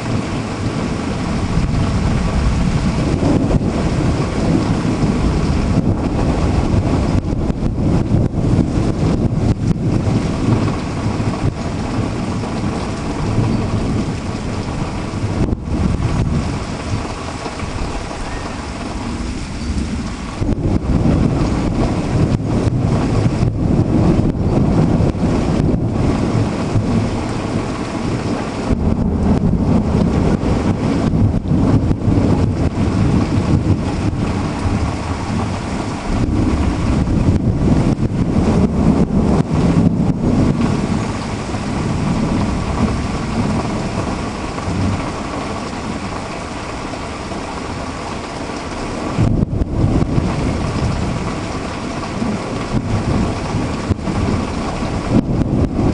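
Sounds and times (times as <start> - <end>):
heavy rain: 0.0 - 55.9
thunder rumbling: 0.0 - 55.9.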